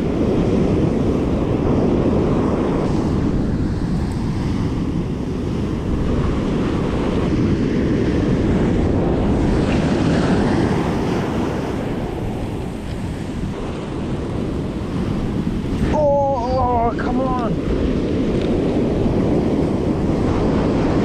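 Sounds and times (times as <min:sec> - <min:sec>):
ocean surf breaking on beach: 0:00.0 - 0:21.0
wind noise on microphone: 0:00.0 - 0:21.0.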